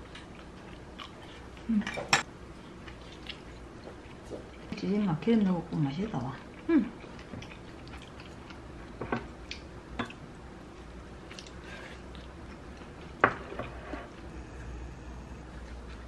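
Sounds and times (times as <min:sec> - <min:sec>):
person chewing food: 0:00.0 - 0:01.7, 0:02.5 - 0:04.7, 0:06.4 - 0:16.0.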